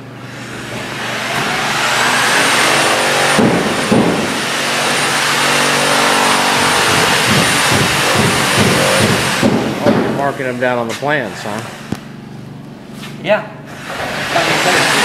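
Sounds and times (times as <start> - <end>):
motor-driven machine running: 0.0 - 12.6, 13.7 - 15.0.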